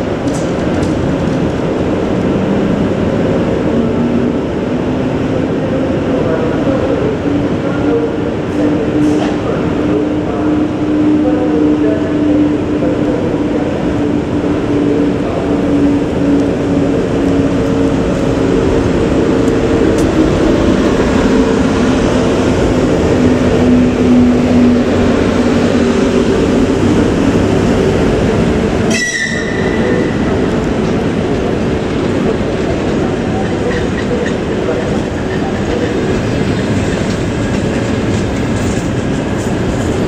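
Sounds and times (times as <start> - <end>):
train humming: 0.0 - 40.0.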